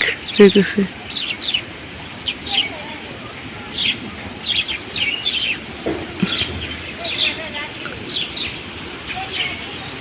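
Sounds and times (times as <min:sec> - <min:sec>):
small birds chirping: 0:00.0 - 0:10.0
steady background hiss: 0:00.0 - 0:10.0.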